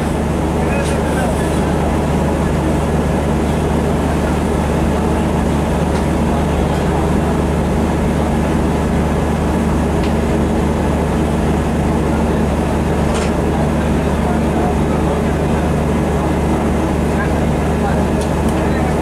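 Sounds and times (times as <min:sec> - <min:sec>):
diesel train engines idling: 0:00.0 - 0:19.0.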